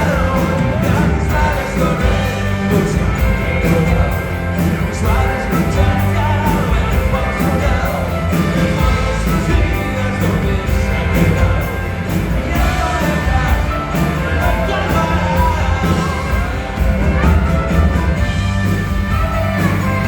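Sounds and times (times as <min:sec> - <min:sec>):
bass: 0:00.0 - 0:20.0
person singing: 0:00.0 - 0:20.0
rock band playing: 0:00.0 - 0:20.0
steady drum beat: 0:00.0 - 0:20.0.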